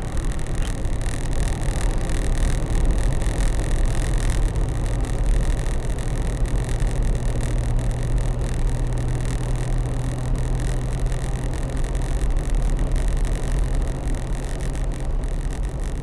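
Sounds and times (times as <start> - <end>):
diesel engine drone: 0.0 - 16.0
road and tyre noise: 0.0 - 16.0.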